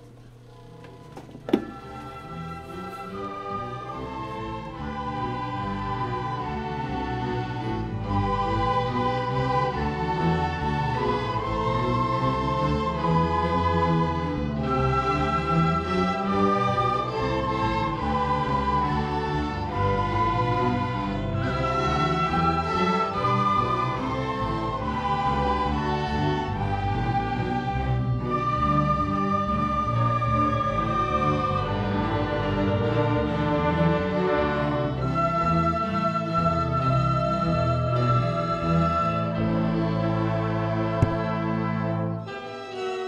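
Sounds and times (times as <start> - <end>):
orchestra playing slow chords: 0.0 - 43.0.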